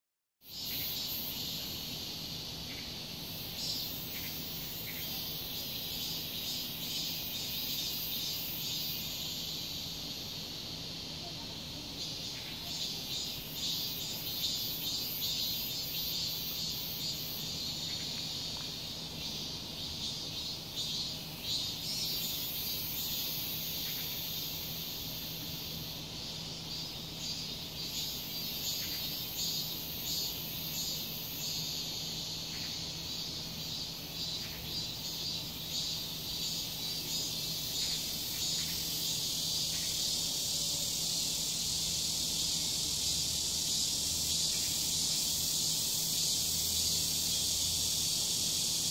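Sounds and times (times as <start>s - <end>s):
cicadas buzzing: 0.4s - 48.9s.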